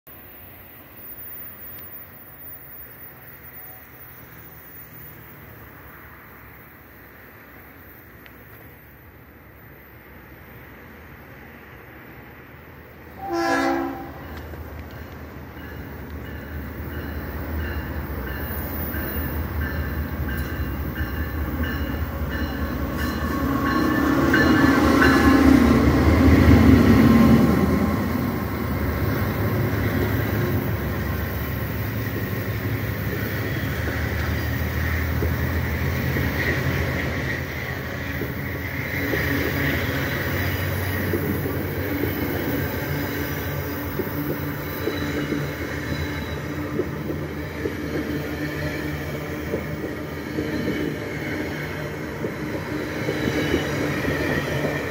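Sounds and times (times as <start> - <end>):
train wheels on rails: 0.1 - 54.9
diesel locomotive engine passing: 0.2 - 54.9.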